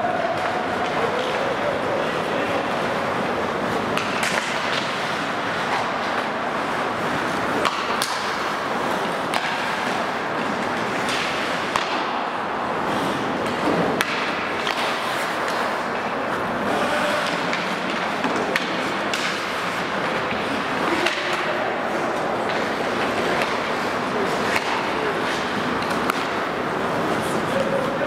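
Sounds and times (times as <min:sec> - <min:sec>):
hockey sticks clacking: 0:00.2 - 0:28.0
skates scraping on ice: 0:00.3 - 0:28.0.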